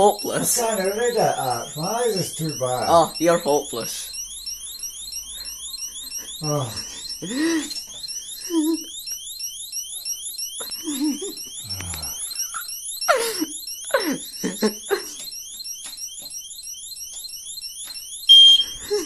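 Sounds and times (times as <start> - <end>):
electronic alarm chirping: 0.0 - 19.0.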